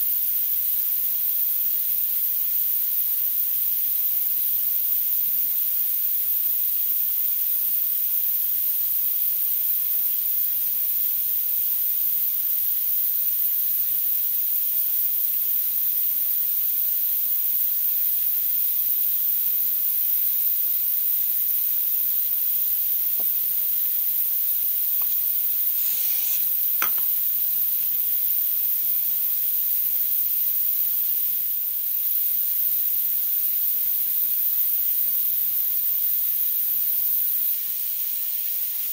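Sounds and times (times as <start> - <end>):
steady high-pitched hiss: 0.0 - 38.9.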